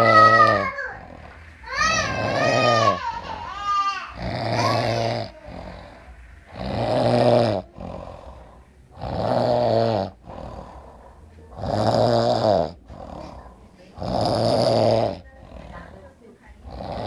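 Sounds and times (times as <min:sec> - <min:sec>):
man snoring: 0:00.0 - 0:13.4, 0:14.0 - 0:15.8, 0:16.6 - 0:17.0
quiet breathing: 0:00.6 - 0:17.0.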